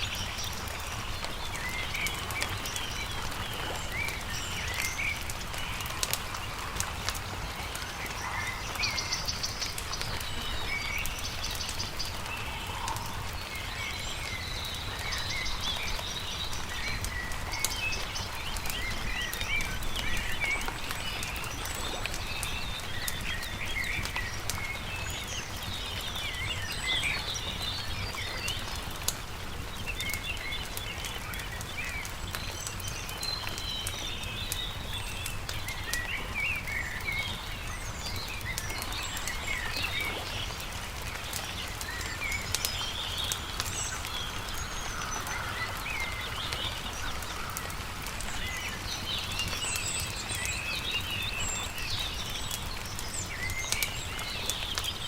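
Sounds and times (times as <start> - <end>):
campfire crackling: 0.0 - 55.0
songbirds chirping and trilling: 0.0 - 55.0.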